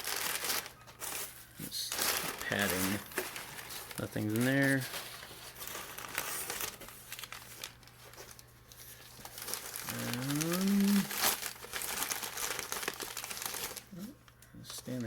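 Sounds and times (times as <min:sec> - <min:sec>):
packing padding crinkling: 0:00.0 - 0:14.1.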